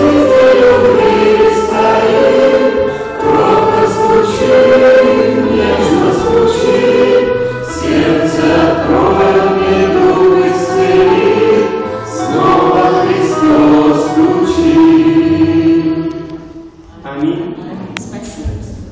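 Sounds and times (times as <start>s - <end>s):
choir singing a hymn: 0.0s - 16.8s.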